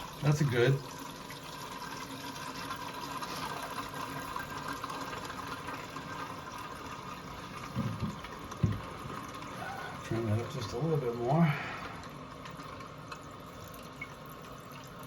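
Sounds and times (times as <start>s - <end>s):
toilet tank refilling: 0.0s - 15.0s.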